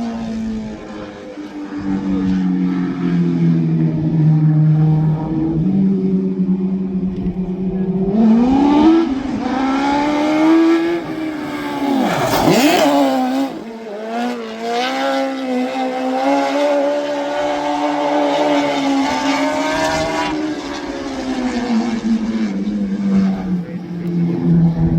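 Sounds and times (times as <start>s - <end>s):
engines at high revs: 0.0s - 24.9s.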